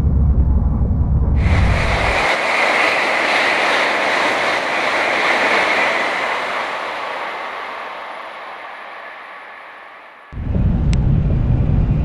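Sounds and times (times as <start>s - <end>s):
train passing at high speed: 1.4s - 12.0s.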